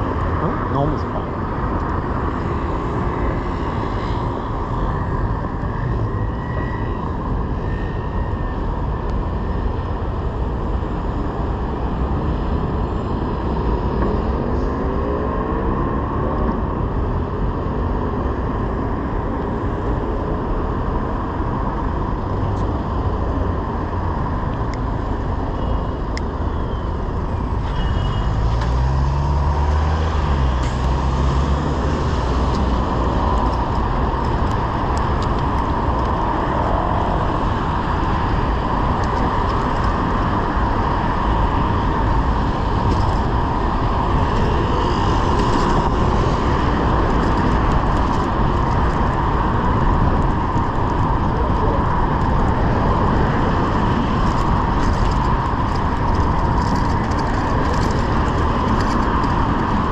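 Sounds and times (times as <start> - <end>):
city traffic noise: 0.0 - 59.9.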